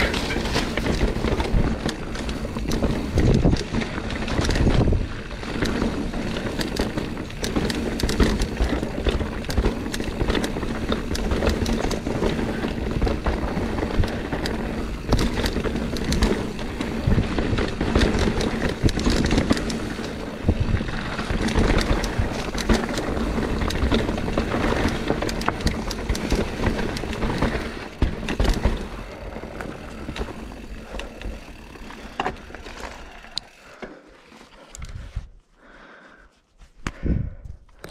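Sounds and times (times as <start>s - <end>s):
bike clicks and rattles: 0.0s - 35.3s, 36.8s - 37.9s
bike tyre roar on dirt: 0.0s - 35.3s.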